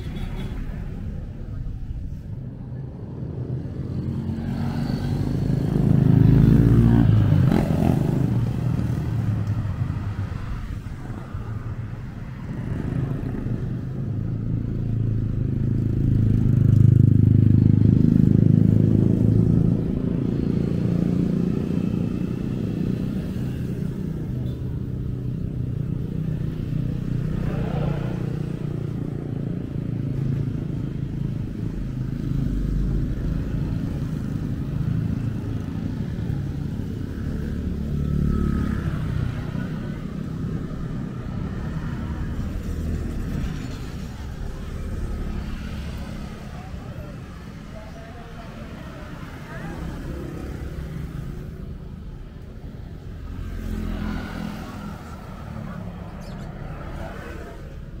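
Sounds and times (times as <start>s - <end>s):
steady engine rumble: 0.0s - 58.0s
vehicles passing close by: 0.0s - 58.0s.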